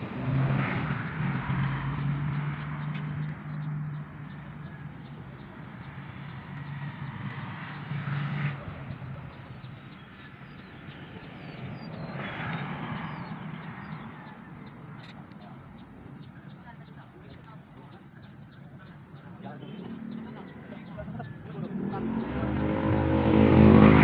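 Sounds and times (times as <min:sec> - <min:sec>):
distant motor engine humming: 0:00.0 - 0:24.0.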